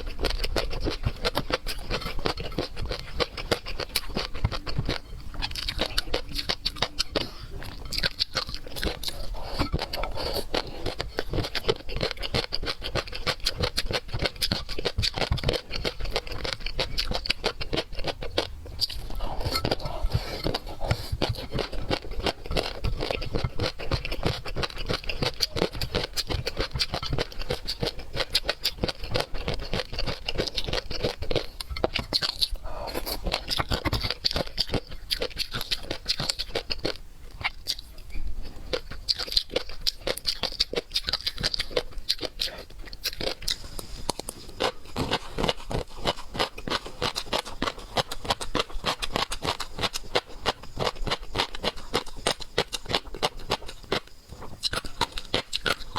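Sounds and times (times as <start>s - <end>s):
wet chewing and mouth smacking: 0.0s - 55.9s.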